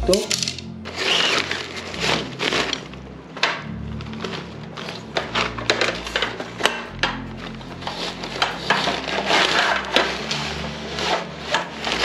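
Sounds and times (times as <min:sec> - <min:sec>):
fabric bag rustling and scraping: 0:00.8 - 0:12.0.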